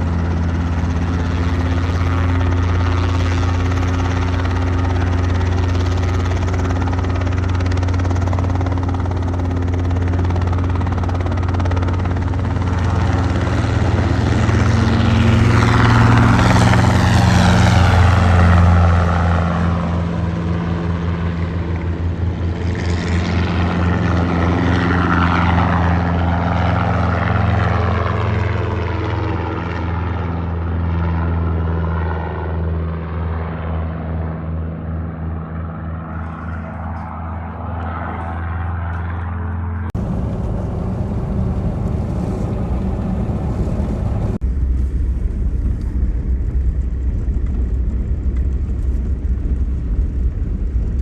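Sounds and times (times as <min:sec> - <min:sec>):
helicopter flying by: 0:00.0 - 0:44.4.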